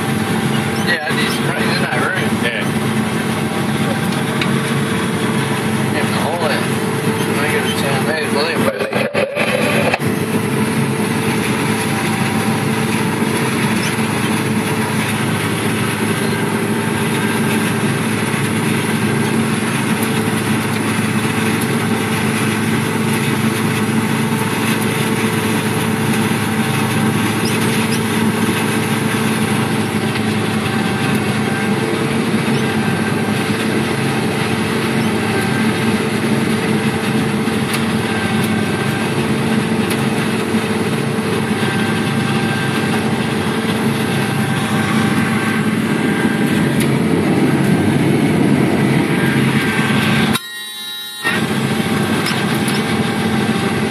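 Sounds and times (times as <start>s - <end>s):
harvester engine droning: 0.0s - 53.9s.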